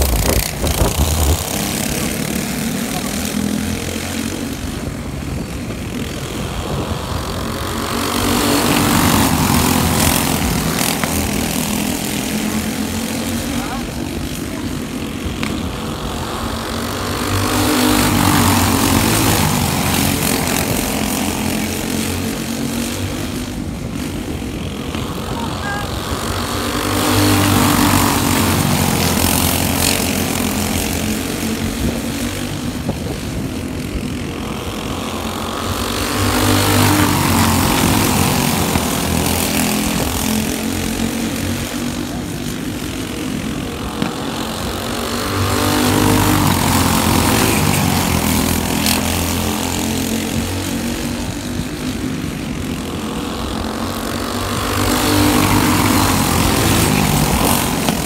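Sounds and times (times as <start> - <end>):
go-kart engines buzzing: 0.0 - 58.0.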